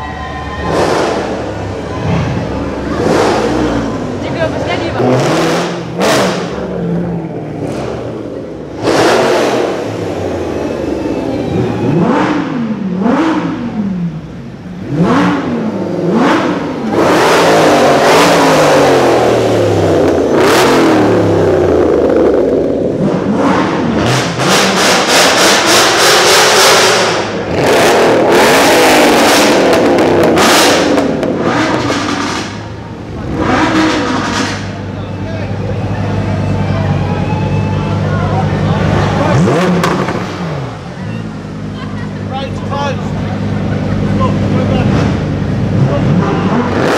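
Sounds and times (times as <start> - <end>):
sports car engines revving: 0.0 - 46.9.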